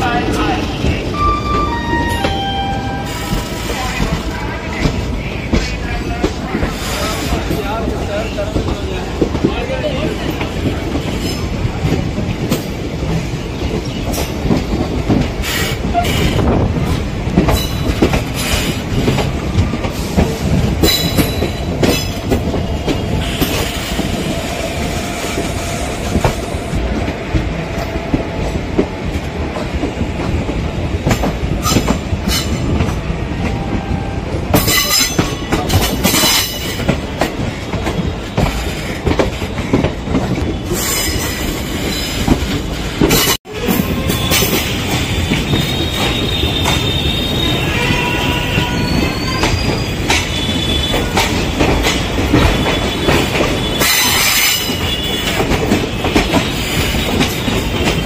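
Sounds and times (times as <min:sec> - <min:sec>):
train wheel and rail rumble: 0:00.0 - 0:58.0
clacks over rail joints: 0:03.2 - 0:24.3, 0:25.4 - 0:58.0.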